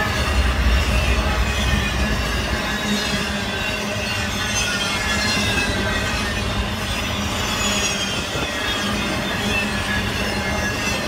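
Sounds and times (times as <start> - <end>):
high wheel squeals: 0.0 - 11.0
train wheels rumbling on rails: 0.0 - 11.0.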